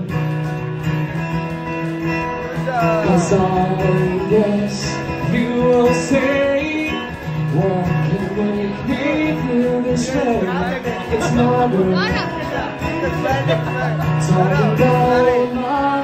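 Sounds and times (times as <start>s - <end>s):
acoustic guitar strumming: 0.0s - 16.0s
man singing: 2.4s - 16.0s.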